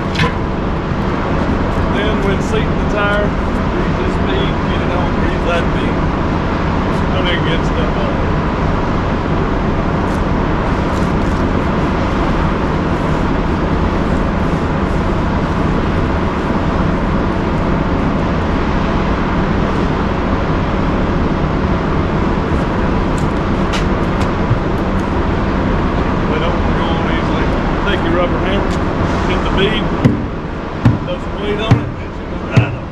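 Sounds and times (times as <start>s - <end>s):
loud mechanical drone: 0.0s - 32.9s
low hum: 0.0s - 32.9s.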